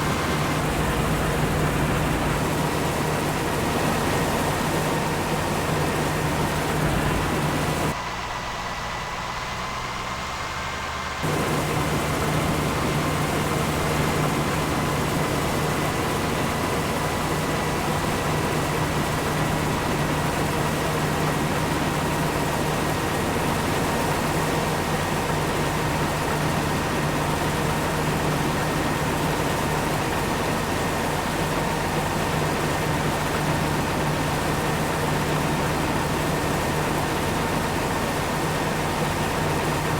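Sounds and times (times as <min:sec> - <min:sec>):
farm machinery engine drone: 0:00.0 - 0:39.9.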